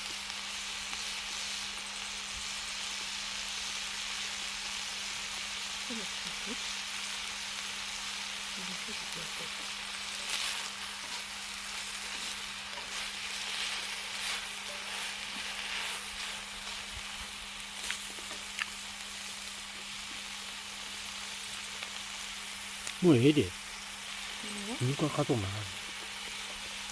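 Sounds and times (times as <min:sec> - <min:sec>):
meat sizzling on a grill: 0:00.0 - 0:26.9.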